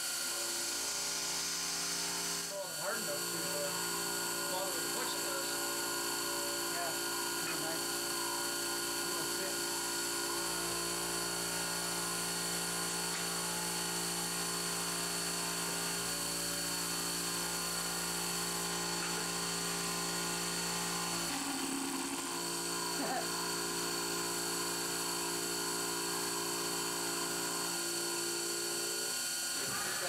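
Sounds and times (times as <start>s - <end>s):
milling machine cutting metal: 0.0s - 30.0s.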